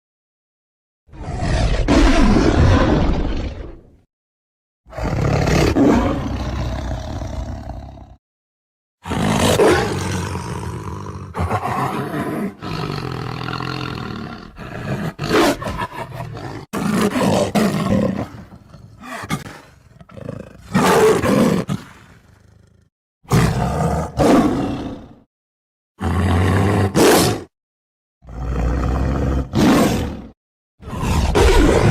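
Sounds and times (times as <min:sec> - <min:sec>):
tiger roaring and growling: 0:01.1 - 0:04.0, 0:04.9 - 0:08.2, 0:09.0 - 0:25.3, 0:26.0 - 0:27.5, 0:28.2 - 0:31.9.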